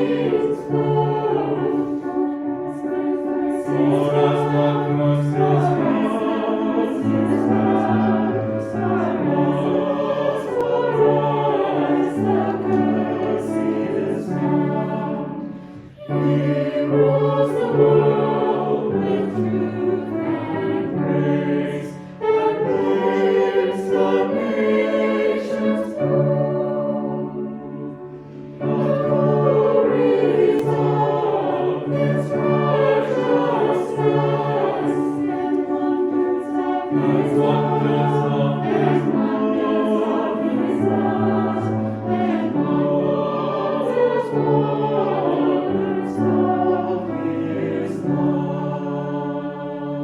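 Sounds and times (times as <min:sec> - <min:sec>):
choir singing in harmony: 0:00.0 - 0:50.0.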